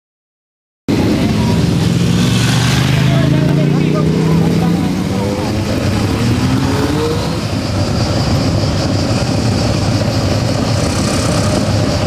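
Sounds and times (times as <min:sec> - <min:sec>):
motorcycle engines passing: 0:00.9 - 0:12.0.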